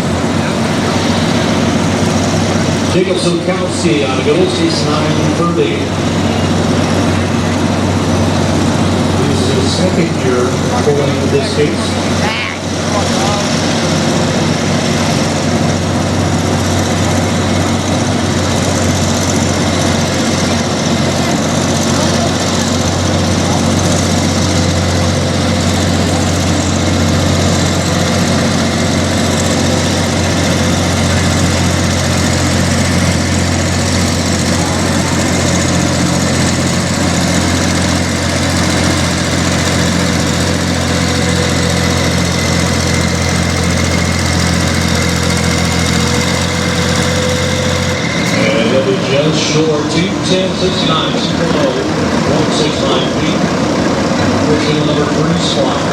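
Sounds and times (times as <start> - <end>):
tractor engine running under heavy load: 0.0 - 55.9.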